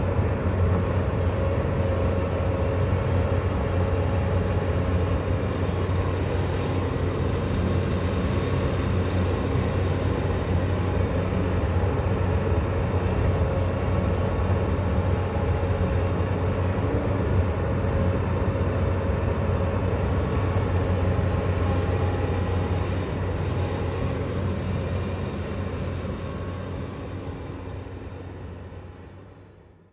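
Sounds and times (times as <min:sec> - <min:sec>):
excavator diesel engine: 0:00.0 - 0:29.9.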